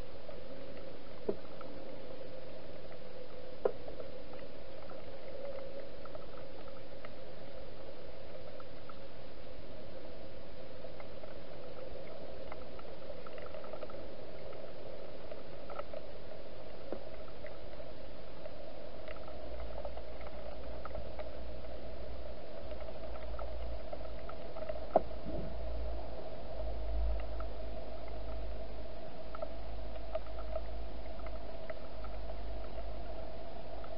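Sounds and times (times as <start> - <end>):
steady hum and hiss: 0.0 - 33.9.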